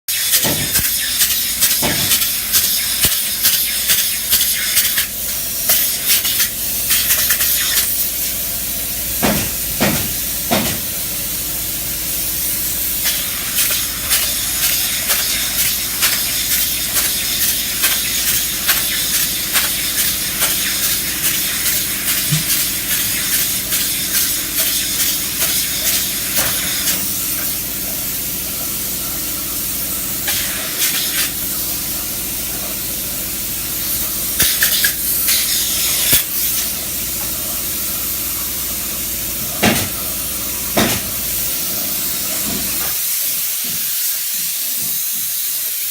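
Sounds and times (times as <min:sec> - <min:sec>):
spray insulation gun hissing: 0:00.1 - 0:45.9.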